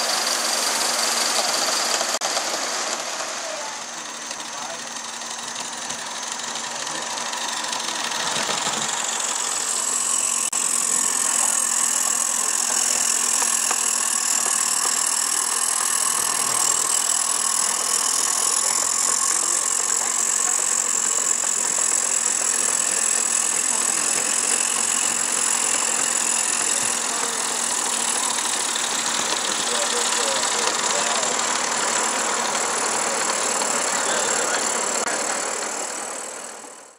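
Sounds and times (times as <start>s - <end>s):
steam hissing: 0.0s - 36.5s
model locomotive running: 0.0s - 36.9s.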